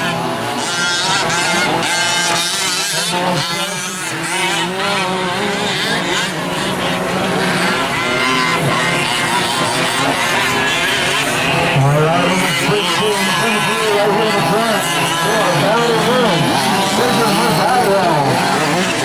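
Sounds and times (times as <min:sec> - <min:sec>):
rc truck engines revving: 0:00.0 - 0:19.0.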